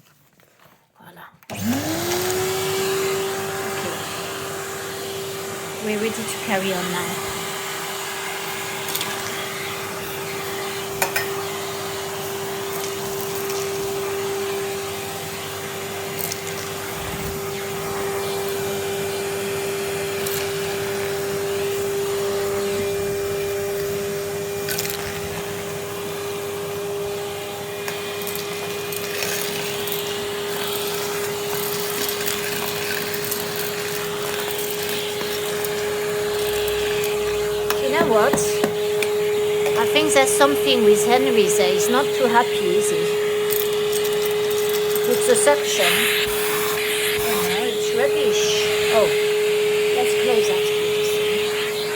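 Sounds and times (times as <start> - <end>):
vacuum cleaner running: 1.4 - 51.9.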